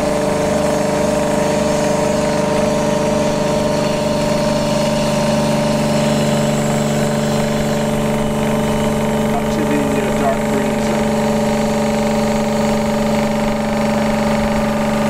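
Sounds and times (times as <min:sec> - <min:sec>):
electric pump humming: 0:00.0 - 0:15.0.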